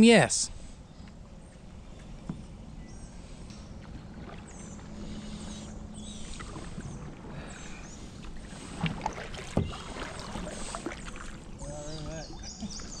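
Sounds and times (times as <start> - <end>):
paddle strokes in water: 1.0 - 13.0.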